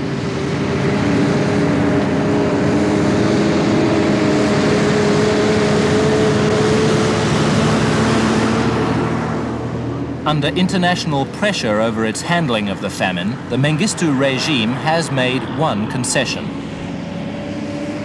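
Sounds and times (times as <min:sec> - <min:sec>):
rushing noise: 0:00.0 - 0:18.0
vehicle engine running: 0:00.0 - 0:18.0.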